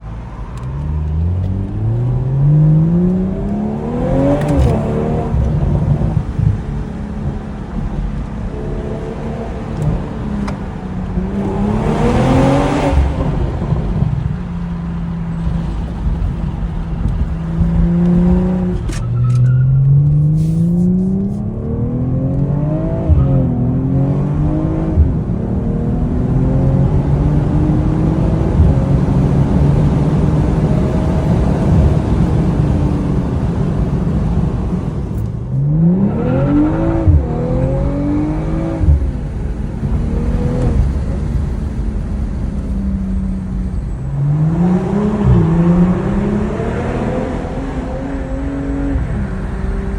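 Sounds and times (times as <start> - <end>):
car engine accelerating hard: 0.0 - 49.9.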